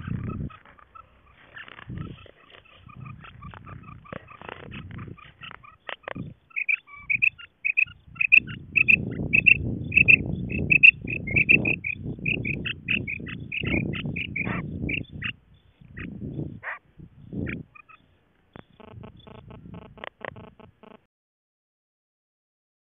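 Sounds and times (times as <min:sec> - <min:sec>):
quail calling: 0:00.0 - 0:21.0.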